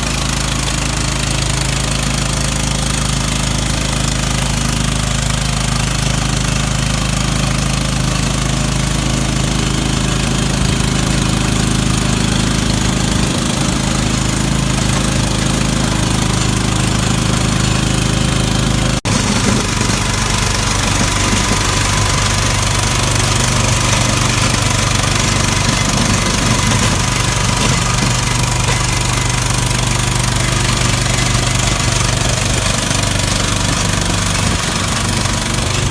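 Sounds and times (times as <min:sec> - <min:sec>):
digger diesel engine running: 0:00.0 - 0:35.9.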